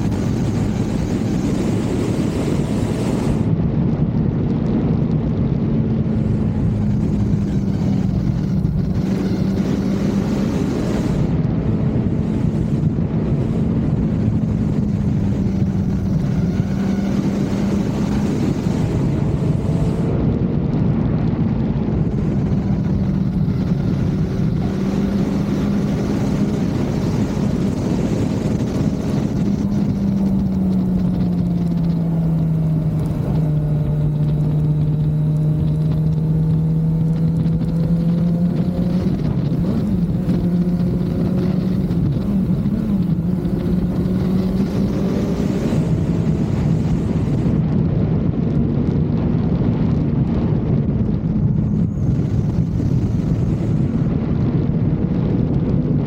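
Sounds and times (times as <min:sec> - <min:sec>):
motorcycle engine cruising: 0:00.0 - 0:56.0
wind rush on microphone: 0:00.0 - 0:56.0.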